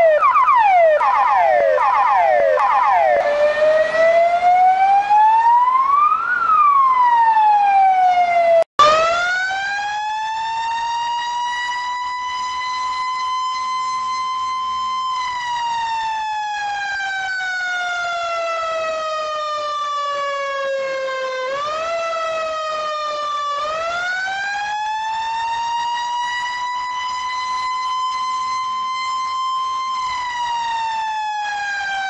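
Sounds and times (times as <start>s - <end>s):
fire siren wailing: 0.0s - 32.0s.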